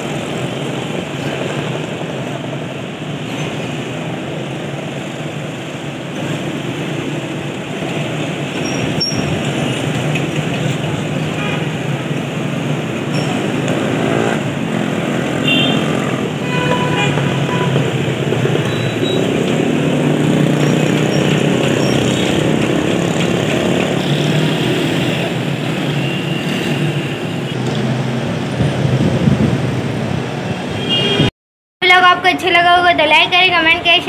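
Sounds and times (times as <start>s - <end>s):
street traffic drone: 0.0s - 34.0s.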